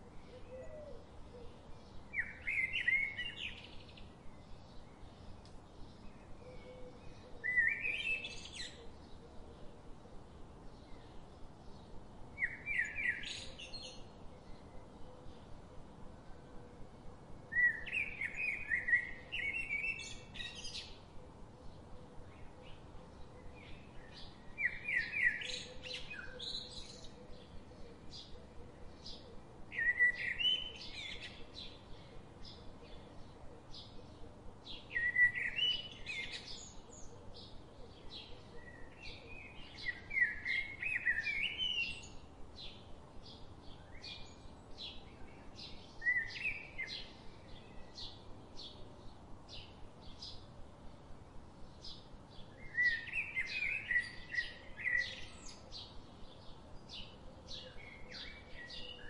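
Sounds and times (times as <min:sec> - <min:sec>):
bird warbling song: 0:00.1 - 0:09.7, 0:10.7 - 0:15.6, 0:17.5 - 0:50.5, 0:51.6 - 0:59.0.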